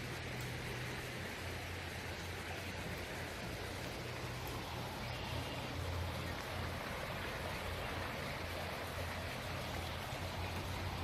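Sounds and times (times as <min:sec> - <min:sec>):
creek running over rocks: 0:00.0 - 0:11.0.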